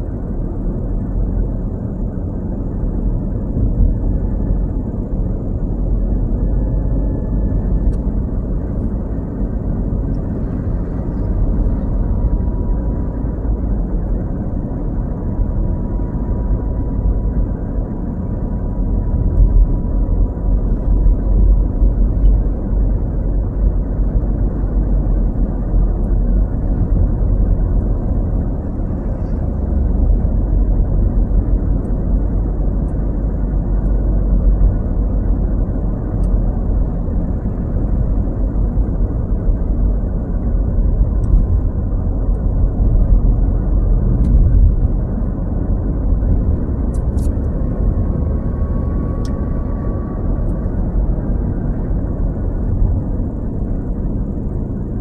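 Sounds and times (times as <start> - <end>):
car driving interior rumble: 0.0 - 55.0.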